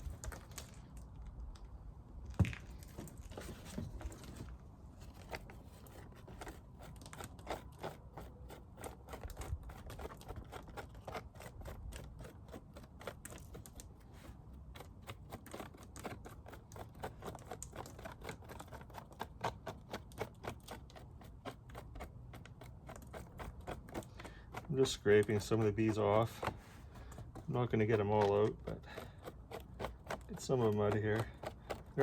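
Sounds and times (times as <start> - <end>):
scratchy clicks of scraping comb: 5.2 - 32.0.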